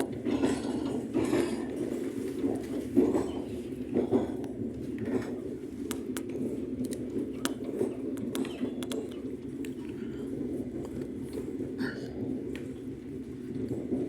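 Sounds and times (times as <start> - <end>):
moving train rumble: 0.0 - 14.0.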